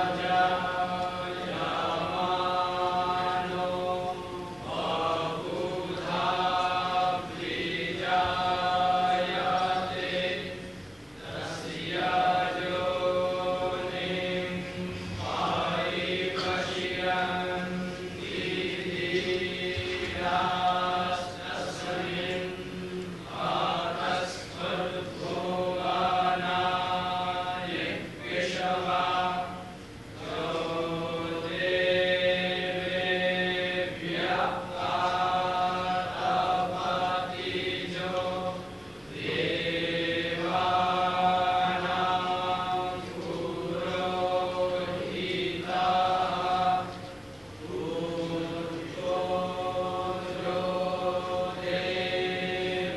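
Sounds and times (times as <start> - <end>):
person chanting: 0.0 - 10.6, 11.2 - 47.0, 47.6 - 52.9.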